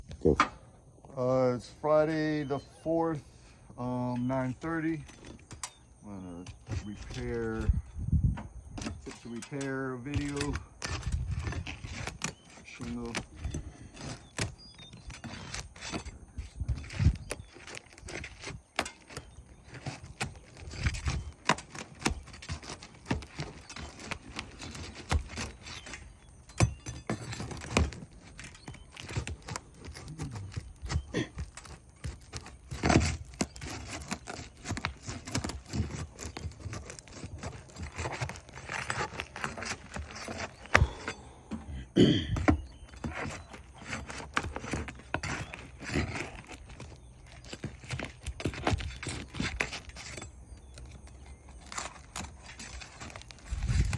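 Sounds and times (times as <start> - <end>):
knocks and scrapes on shingle roof: 3.8 - 53.9.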